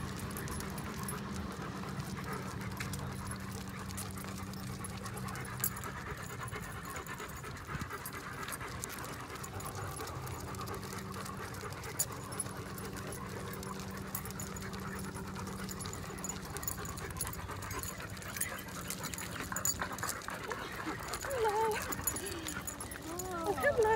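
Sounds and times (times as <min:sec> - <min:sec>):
dogs panting: 0:00.0 - 0:23.9
low hum: 0:00.0 - 0:23.9.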